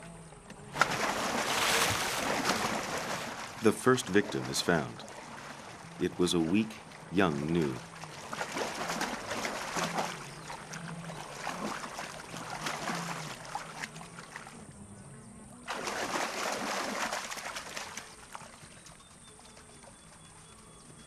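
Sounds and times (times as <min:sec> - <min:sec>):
animals running through water: 0:00.6 - 0:14.9, 0:15.5 - 0:21.0
water splashing and churning: 0:00.6 - 0:21.0.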